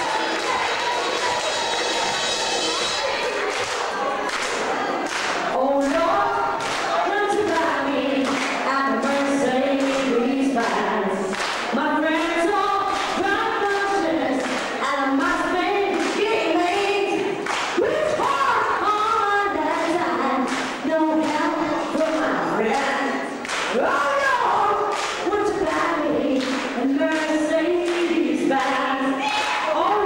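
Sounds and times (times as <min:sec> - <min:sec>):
people clapping a beat: 0:00.0 - 0:30.0
singer and audience singing: 0:00.0 - 0:30.0.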